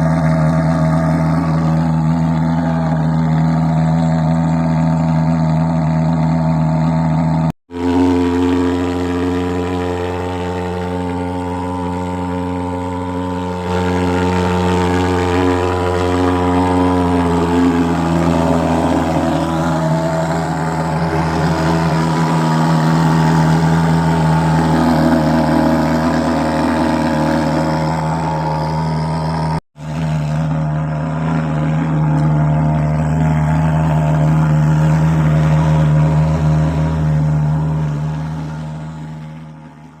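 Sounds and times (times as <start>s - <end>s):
fogging machine engine drone: 0.0s - 40.0s.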